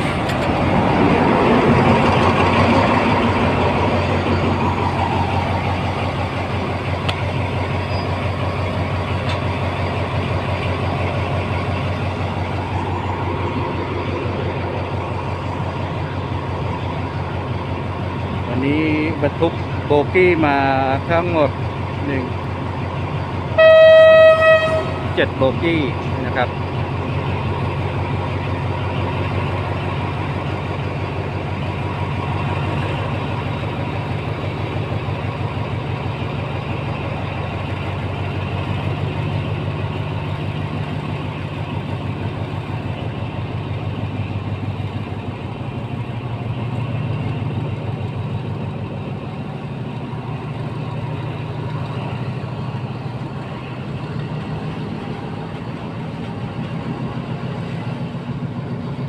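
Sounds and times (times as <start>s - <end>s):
diesel engine drone: 0.0s - 59.0s
passenger train rolling past: 0.0s - 59.0s.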